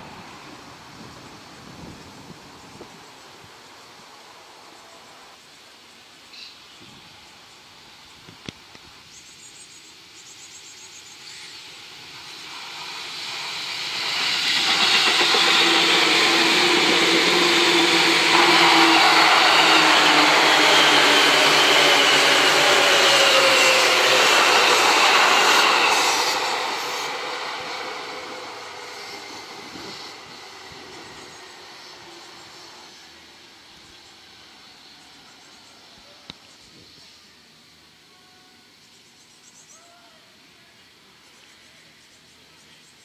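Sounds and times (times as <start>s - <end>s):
electric train passing: 0.0s - 6.4s, 7.0s - 39.6s.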